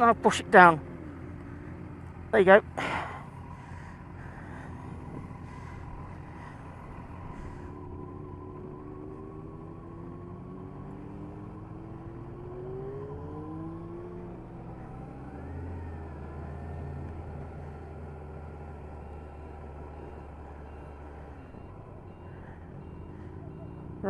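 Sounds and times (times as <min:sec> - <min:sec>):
engine low hum: 0:00.0 - 0:24.0
vehicle engine accelerating: 0:00.0 - 0:24.0.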